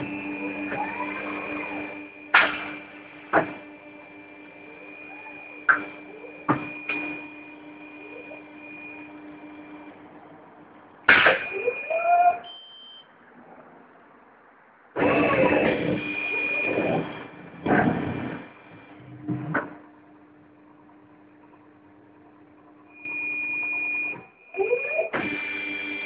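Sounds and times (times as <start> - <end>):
tyre changer motor whine: 0.0 - 13.1, 14.9 - 26.0.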